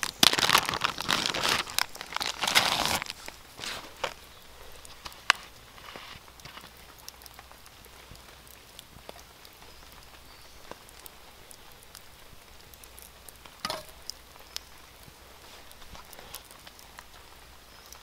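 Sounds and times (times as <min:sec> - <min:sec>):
soft hiss: 0:01.6 - 0:18.0
small ticks and pops: 0:03.1 - 0:18.0.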